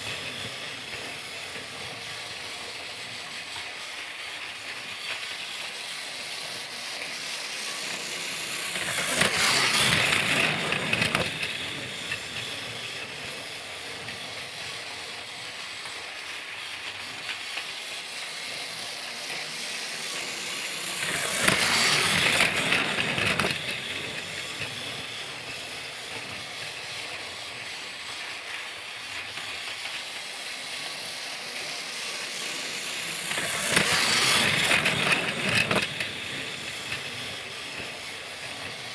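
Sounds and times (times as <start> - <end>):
toy train whirring hiss: 0.0 - 38.9.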